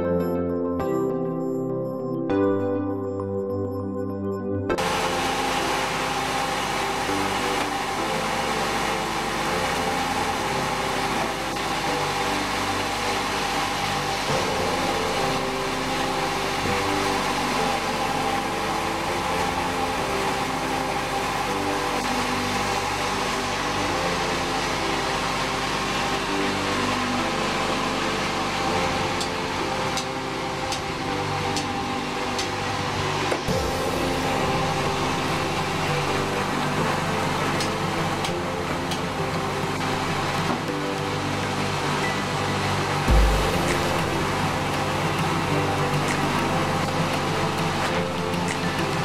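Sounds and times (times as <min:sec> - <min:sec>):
sawmill machinery hum: 0:04.7 - 0:49.0.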